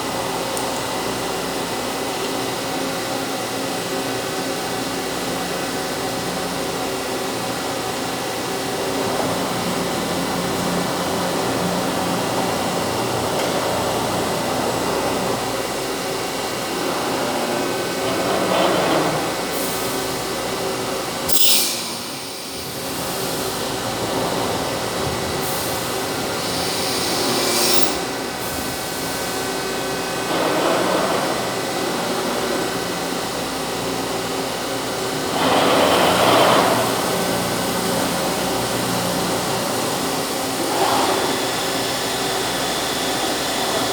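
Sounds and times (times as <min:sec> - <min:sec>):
cnc machine humming: 0:00.0 - 0:43.9.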